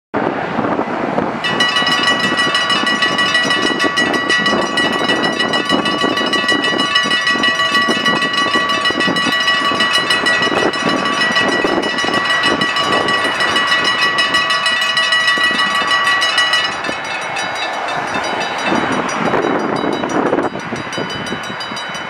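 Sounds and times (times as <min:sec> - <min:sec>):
level crossing warning bells ringing: 0:01.4 - 0:22.0.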